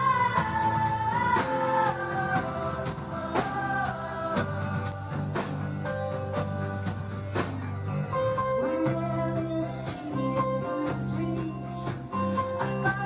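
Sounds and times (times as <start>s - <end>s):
instrumental live band music: 0.0s - 13.0s.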